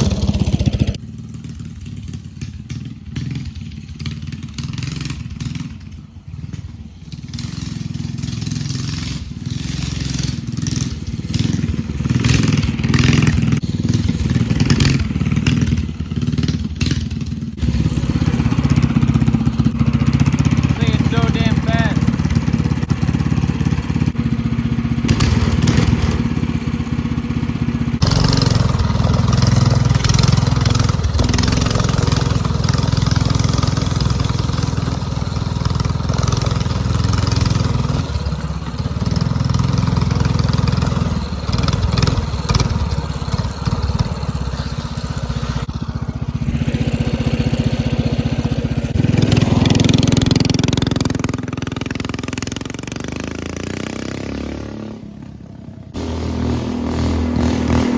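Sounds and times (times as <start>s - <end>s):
minibike engine running: 0.0s - 57.9s.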